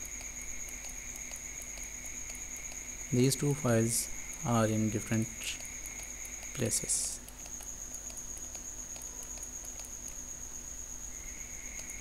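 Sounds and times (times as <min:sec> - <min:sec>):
faint ticks: 0:00.0 - 0:10.3, 0:11.7 - 0:12.0.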